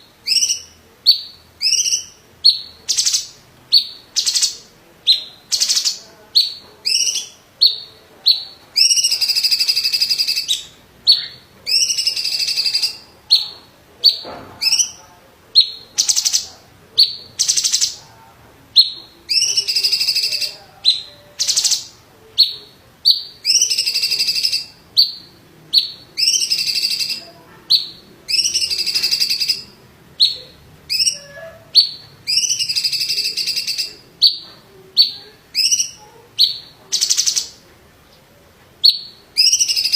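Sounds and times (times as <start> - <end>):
bird singing buzzy phrases: 0.0 - 18.0, 18.7 - 37.6, 38.8 - 39.9.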